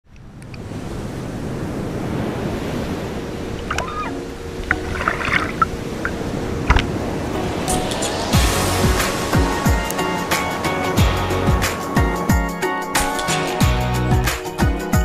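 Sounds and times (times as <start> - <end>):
wind: 0.0 - 15.0
water lapping and sloshing: 0.2 - 13.4.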